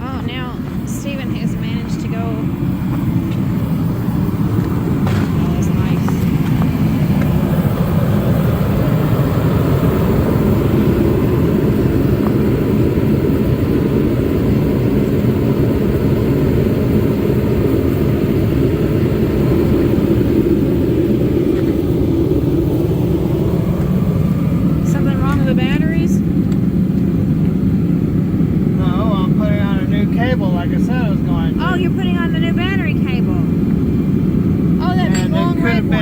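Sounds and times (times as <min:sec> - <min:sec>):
vehicle engine idling: 0:00.0 - 0:14.6, 0:17.6 - 0:36.0.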